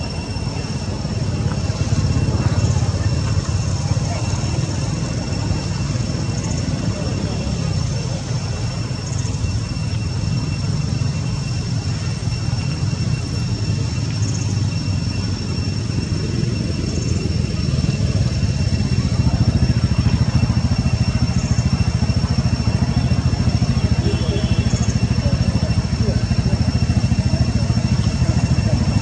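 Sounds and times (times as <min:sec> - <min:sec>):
high-pitched whine: 0:00.0 - 0:29.0
motor rumbling with fast pulse: 0:00.0 - 0:29.0.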